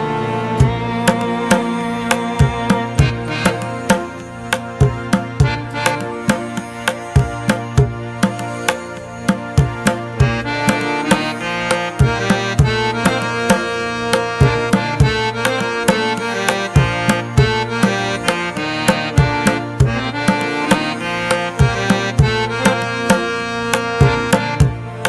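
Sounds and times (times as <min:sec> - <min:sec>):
held melodic tones: 0:00.0 - 0:25.0.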